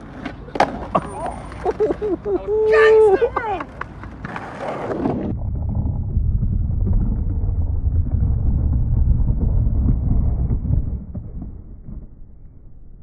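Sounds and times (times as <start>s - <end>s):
skateboard wheels rolling on concrete: 0.0s - 13.0s.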